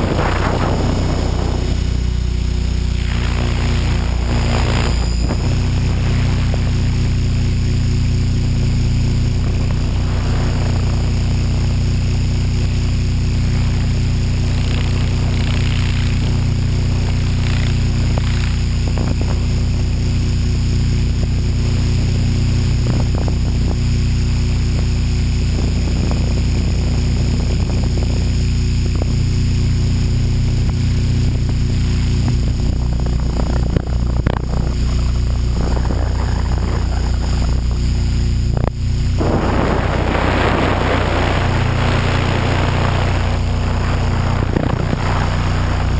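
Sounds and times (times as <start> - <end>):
model helicopter rotor hum: 0.0 - 45.9.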